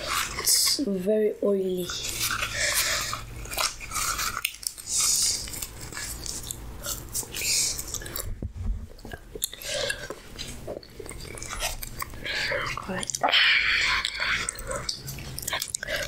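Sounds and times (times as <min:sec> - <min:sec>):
biting and chewing fried bread: 0:00.0 - 0:01.0, 0:01.8 - 0:16.0.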